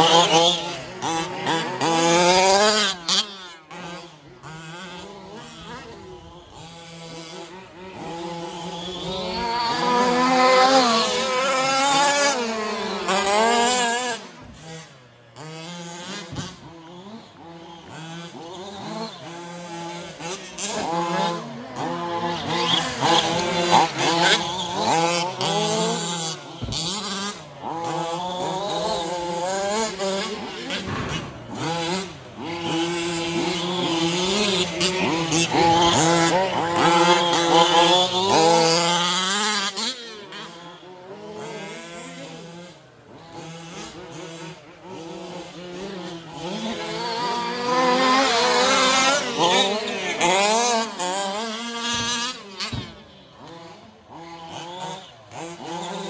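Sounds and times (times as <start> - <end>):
rc truck engines revving: 0.0 - 56.0.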